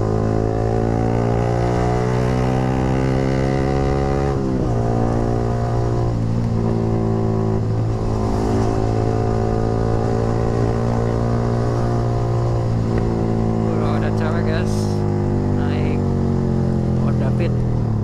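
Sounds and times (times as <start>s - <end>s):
motorcycle engine through exhaust: 0.0s - 18.0s.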